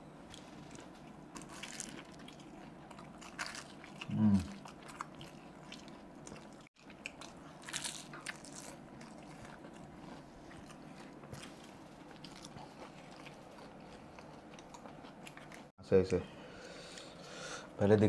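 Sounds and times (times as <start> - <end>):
crunchy food chewing: 0.3 - 15.7.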